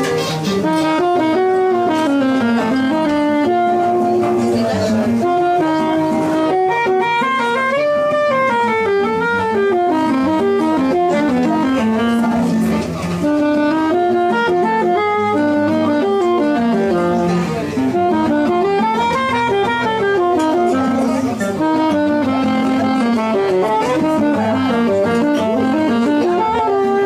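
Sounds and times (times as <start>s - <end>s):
accompanying instrument: 0.0s - 27.0s
saxophone jazz melody: 0.0s - 27.0s.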